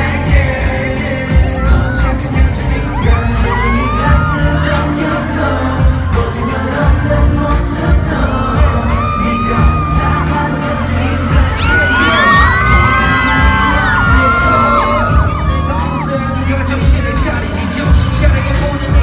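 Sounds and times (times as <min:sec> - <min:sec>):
crowd screaming: 0:00.0 - 0:19.0
pop song over loudspeakers: 0:00.0 - 0:19.0.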